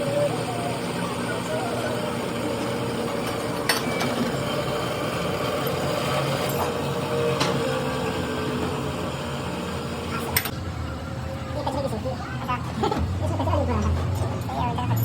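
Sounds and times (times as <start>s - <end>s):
machine running with low rumble: 0.0s - 15.0s.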